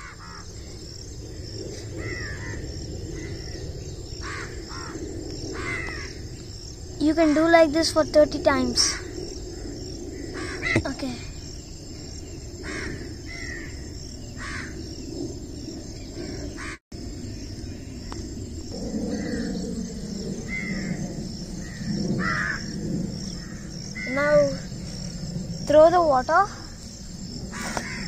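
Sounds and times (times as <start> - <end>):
birds calling harshly: 0.0 - 28.0
high insect drone: 0.0 - 28.0.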